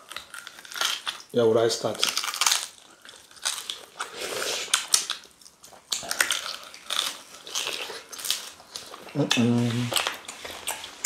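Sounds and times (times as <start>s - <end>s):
people chewing and slurping: 1.9s - 11.0s.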